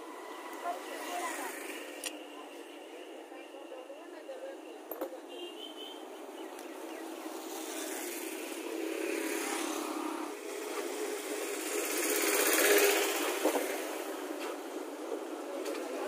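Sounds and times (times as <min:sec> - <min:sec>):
passing traffic engine noise: 0:00.0 - 0:16.0.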